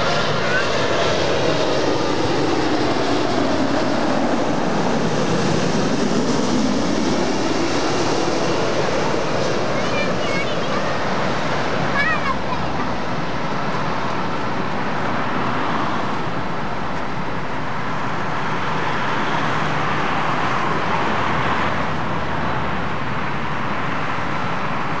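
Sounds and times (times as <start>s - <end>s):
jet engines landing: 0.0s - 25.0s.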